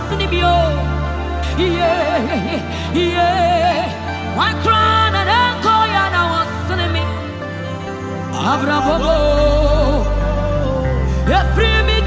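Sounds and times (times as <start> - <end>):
woman singing into a microphone: 0.0 - 12.0.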